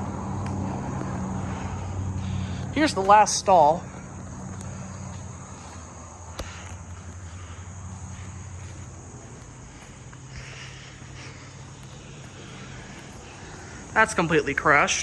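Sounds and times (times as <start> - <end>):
high-pitched insect drone: 0.0 - 15.0
low engine hum: 0.0 - 15.0.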